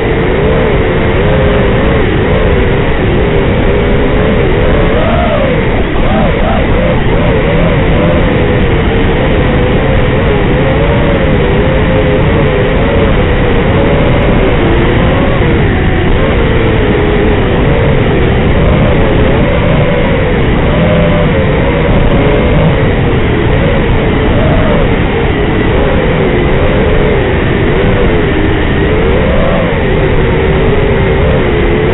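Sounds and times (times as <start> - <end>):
quadcopter motors whining: 0.0 - 27.2.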